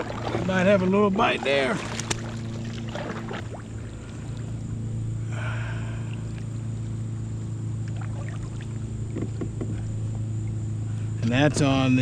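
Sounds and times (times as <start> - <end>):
small boat motor humming: 0.0 - 12.0.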